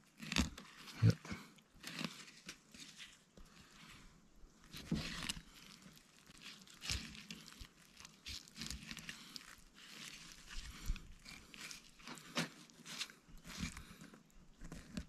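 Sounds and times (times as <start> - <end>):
knife crunching over fish bones: 0.0 - 2.9, 4.8 - 15.0.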